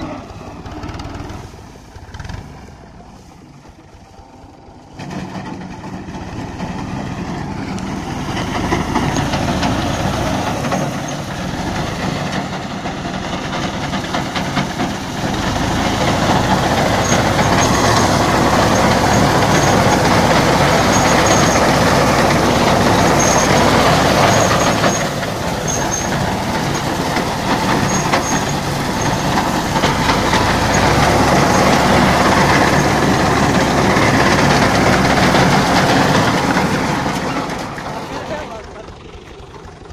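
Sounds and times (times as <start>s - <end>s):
reaper mechanical clatter: 0.0s - 2.9s, 4.2s - 39.9s
diesel tractor engine under load: 0.0s - 39.9s.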